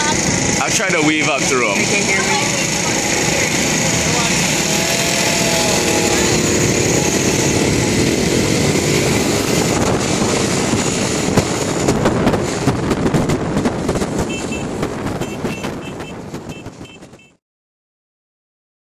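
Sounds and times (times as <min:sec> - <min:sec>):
wind buffeting microphone: 0:00.0 - 0:17.2
scooter engines running: 0:00.0 - 0:17.4.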